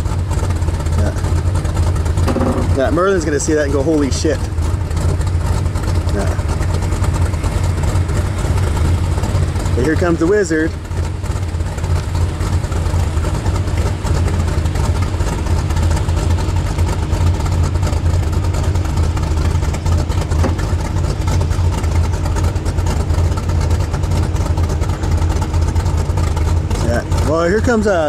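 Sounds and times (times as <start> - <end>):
truck engines rumbling: 0.0 - 28.0.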